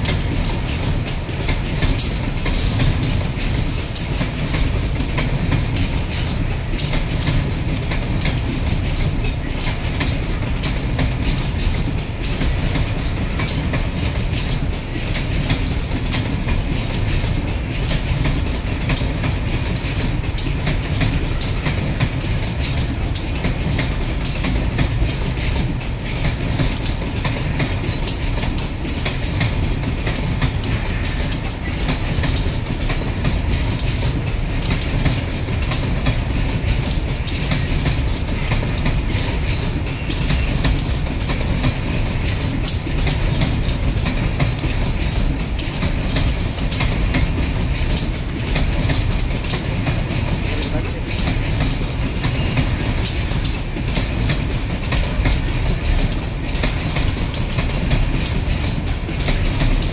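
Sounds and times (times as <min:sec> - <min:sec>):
train rumbling past: 0:00.0 - 0:59.9
wheels clicking over rail joints: 0:00.0 - 0:59.9.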